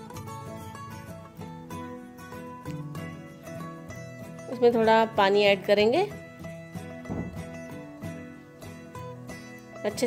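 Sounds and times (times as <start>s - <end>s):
instrumental music with plucked notes: 0.0s - 10.0s.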